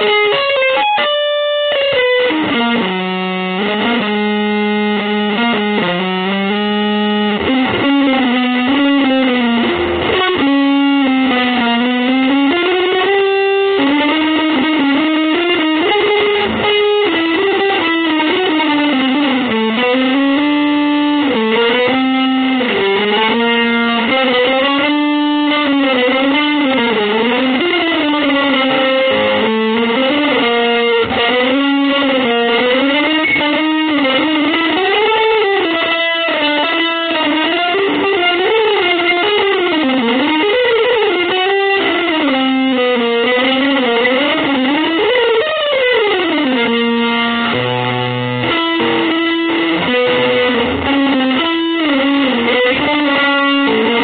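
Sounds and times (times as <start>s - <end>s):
electric guitar melody: 0.0s - 54.0s.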